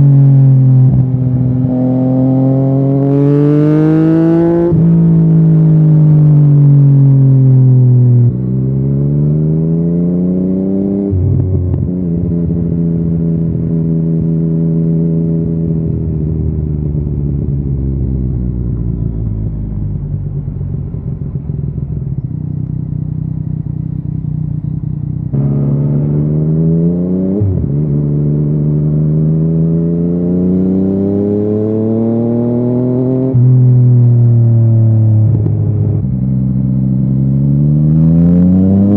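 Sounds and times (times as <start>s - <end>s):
motorcycle engine revving: 0.0s - 17.9s, 20.6s - 38.9s.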